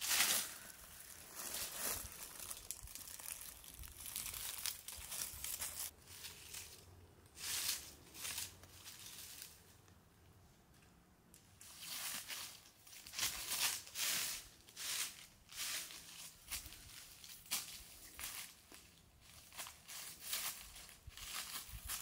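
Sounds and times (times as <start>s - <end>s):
dry leaves rustling: 0.0s - 9.9s, 11.6s - 22.0s.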